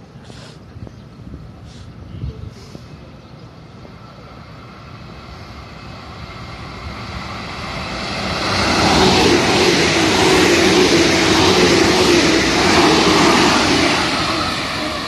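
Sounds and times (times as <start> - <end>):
train passing: 0.0 - 15.0
wheels rushing on rail: 0.6 - 15.0.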